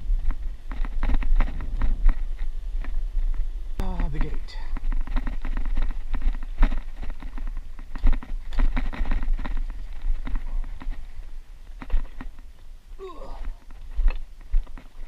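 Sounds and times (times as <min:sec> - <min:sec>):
bike rattling on rough trail: 0:00.0 - 0:12.7, 0:13.3 - 0:15.0.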